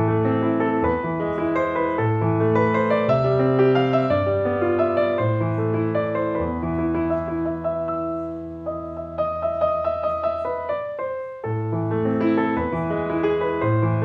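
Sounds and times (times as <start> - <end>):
jazz piano trio: 0.0 - 14.0.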